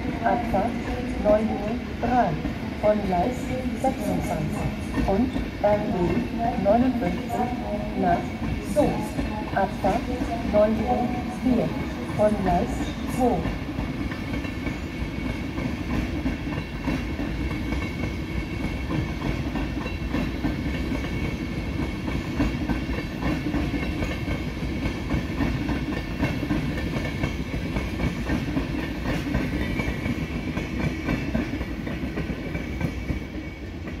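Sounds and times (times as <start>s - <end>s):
train coaches rumbling past: 0.0s - 34.0s.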